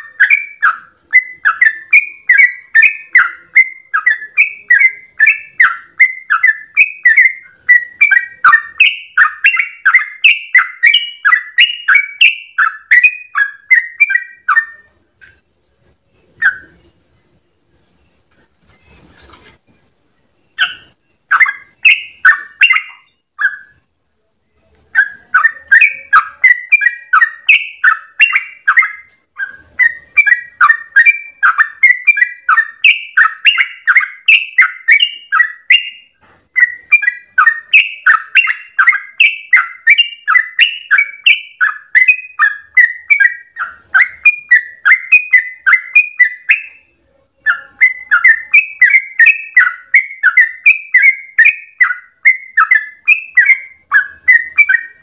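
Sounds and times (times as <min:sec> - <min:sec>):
bird singing whistled notes: 0:00.0 - 0:15.0, 0:16.2 - 0:17.0, 0:20.2 - 0:55.0.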